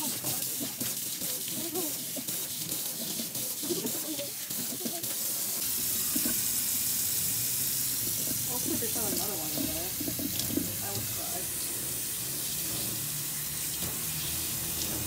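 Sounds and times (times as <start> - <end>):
tap water splashing into a sink: 0.0 - 11.6, 12.4 - 15.0.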